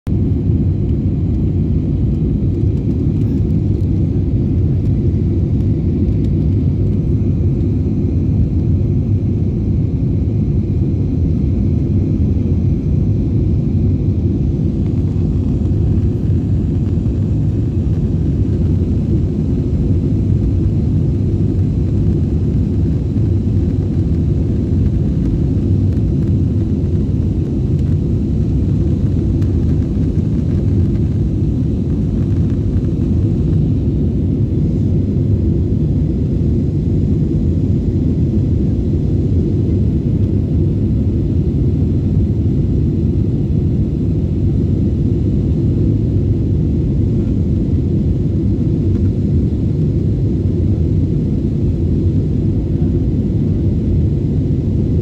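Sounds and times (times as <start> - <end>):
plane engines rumbling in cabin: 0.1 - 55.0.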